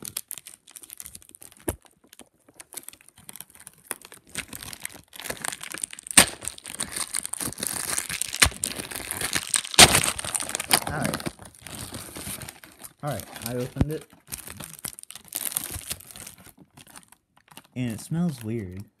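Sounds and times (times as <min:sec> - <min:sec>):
sharp plastic rips: 0:00.0 - 0:18.8
plastic packaging crinkling: 0:00.0 - 0:19.0.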